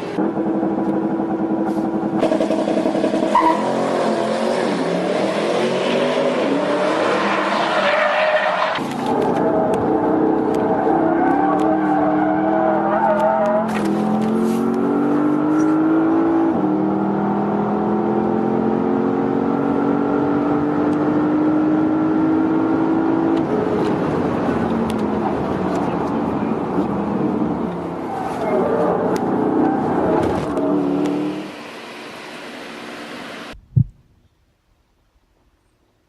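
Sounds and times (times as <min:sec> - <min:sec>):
car engine accelerating hard: 0:00.2 - 0:07.9, 0:08.8 - 0:33.6.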